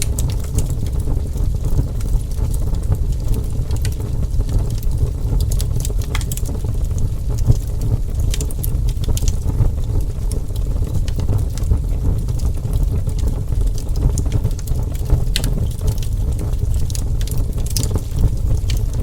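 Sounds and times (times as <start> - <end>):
burning wood crackling and popping: 0.0 - 19.0
wood fire roaring: 0.0 - 19.0.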